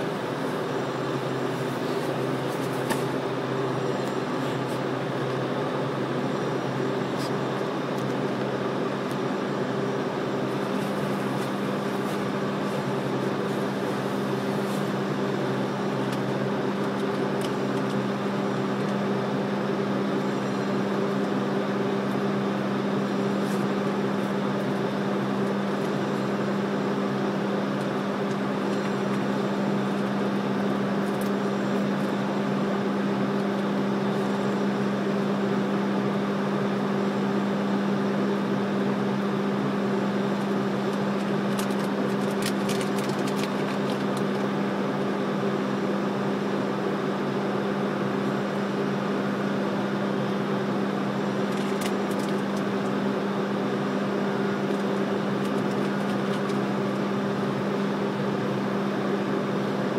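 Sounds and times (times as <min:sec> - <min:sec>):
ship machinery hum: 0:00.0 - 0:59.9.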